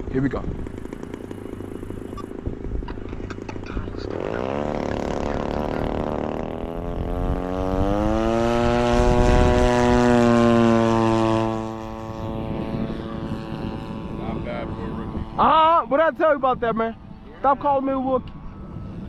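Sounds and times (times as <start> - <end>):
model plane engine at full throttle: 0.0 - 19.0.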